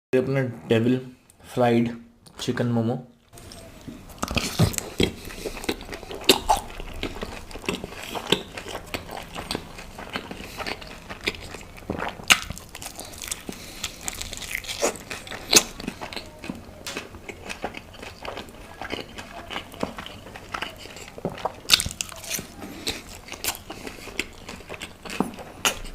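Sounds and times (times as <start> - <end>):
person chewing crunchy food: 3.3 - 25.9.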